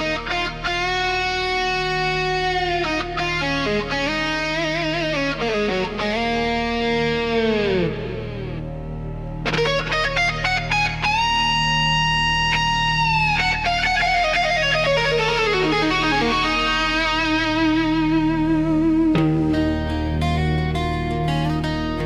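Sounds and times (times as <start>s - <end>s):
instrumental rock electric guitar: 0.0s - 22.0s.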